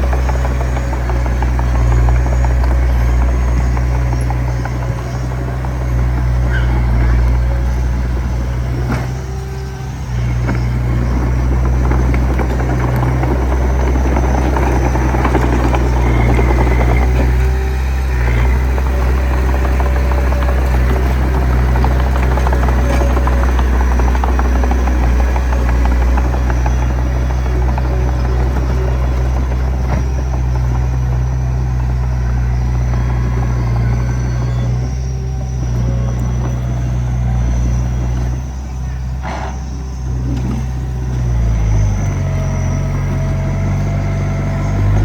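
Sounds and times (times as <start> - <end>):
metallic track clatter: 0.0 - 41.8
bulldozer diesel engine: 0.0 - 45.0.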